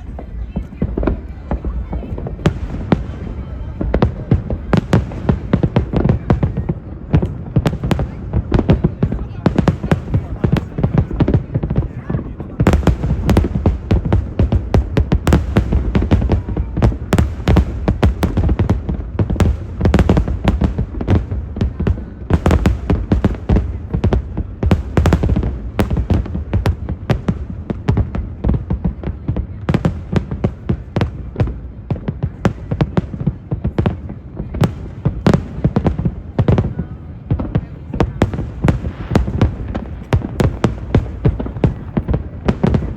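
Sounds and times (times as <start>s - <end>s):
distant fireworks bangs: 0.0s - 42.9s.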